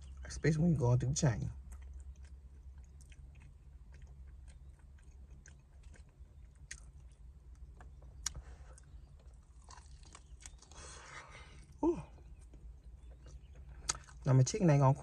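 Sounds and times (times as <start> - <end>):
low steady hum: 0.0 - 15.0
chewing mouth noises: 1.5 - 14.3.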